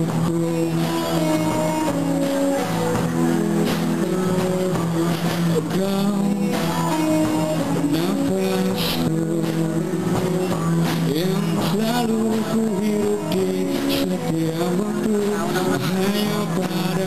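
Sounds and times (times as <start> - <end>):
drums: 0.0 - 17.0
electric guitars: 0.0 - 17.0.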